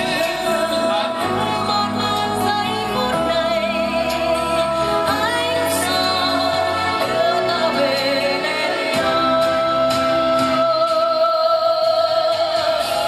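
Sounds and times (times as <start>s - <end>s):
music with singing: 0.0s - 13.0s.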